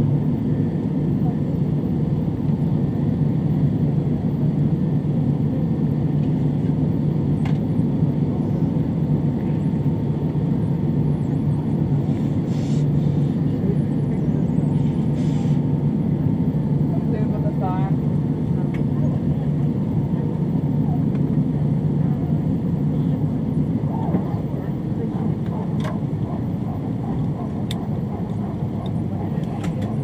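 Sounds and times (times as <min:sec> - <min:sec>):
jet engines running at low power: 0:00.0 - 0:30.0.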